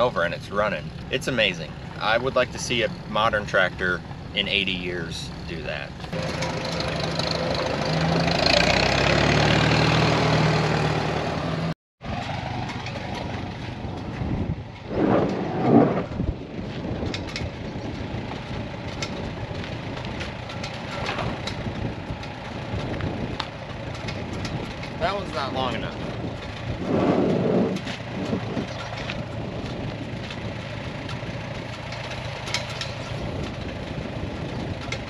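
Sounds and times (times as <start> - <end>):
tractor engine running: 0.0 - 35.0
wind: 0.0 - 35.0.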